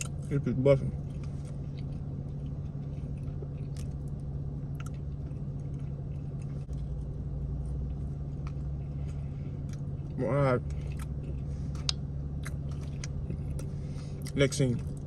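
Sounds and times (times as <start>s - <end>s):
steady low hum: 0.0s - 15.0s
person chewing food: 0.9s - 15.0s.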